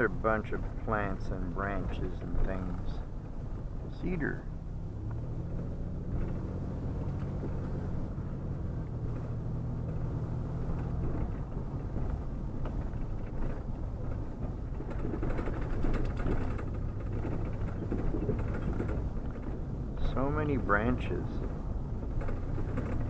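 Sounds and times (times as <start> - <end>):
road noise: 0.0 - 23.0
truck engine humming: 0.0 - 23.0
light rattles: 0.2 - 23.0.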